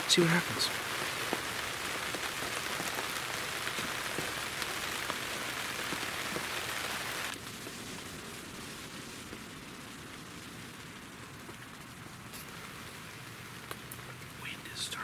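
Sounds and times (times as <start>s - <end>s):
heavy rain on fabric: 0.0s - 15.0s.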